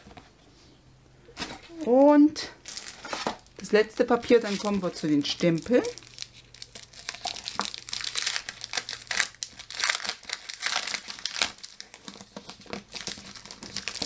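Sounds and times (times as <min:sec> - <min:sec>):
paper crinkling and rustling: 0:02.6 - 0:14.0.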